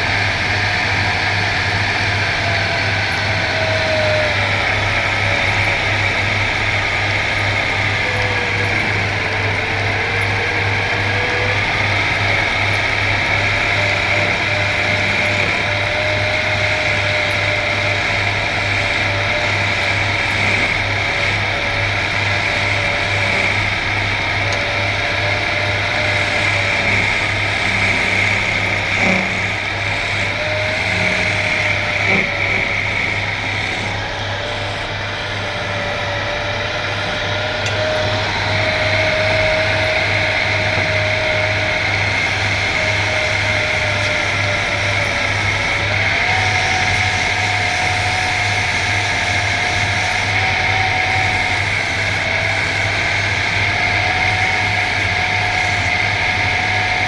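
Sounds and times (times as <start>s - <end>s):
woodworking machine running: 0.0s - 57.0s.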